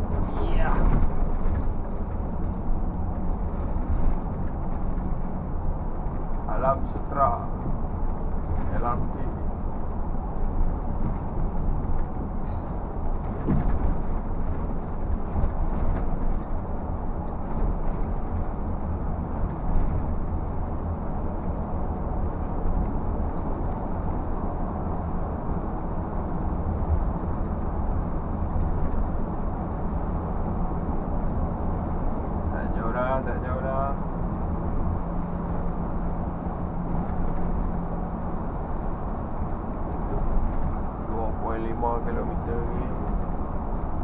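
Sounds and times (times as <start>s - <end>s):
light rattles and knocks: 0.0s - 32.4s, 34.2s - 44.0s
bus engine and road rumble: 0.0s - 44.0s.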